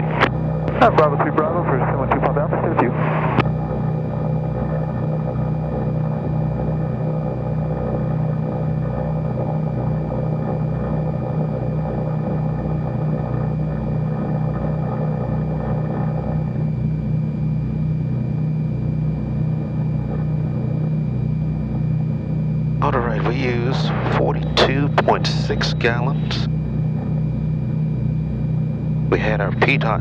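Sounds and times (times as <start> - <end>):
faint high whine: 0.0 - 30.0.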